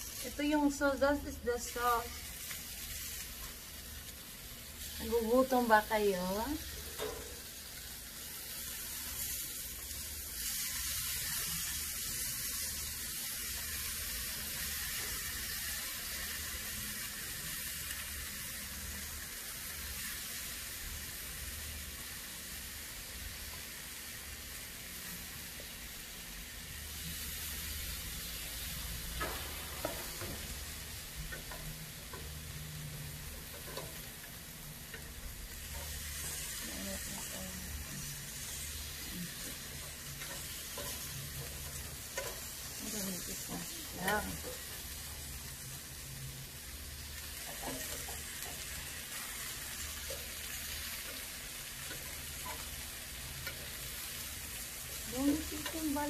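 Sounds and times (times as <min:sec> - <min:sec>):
meat sizzling on a grill: 0:00.0 - 0:56.0.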